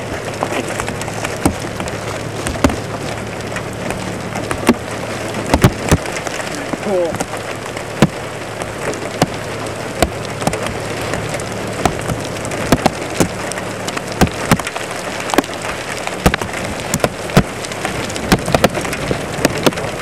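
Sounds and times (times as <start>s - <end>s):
rain: 0.0s - 20.0s
raindrops tapping close by: 0.0s - 20.0s.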